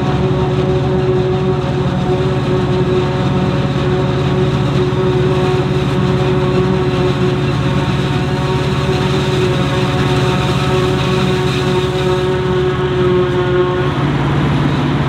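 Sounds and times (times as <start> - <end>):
diesel engine drone: 0.0 - 15.0
machinery whine: 0.0 - 15.0.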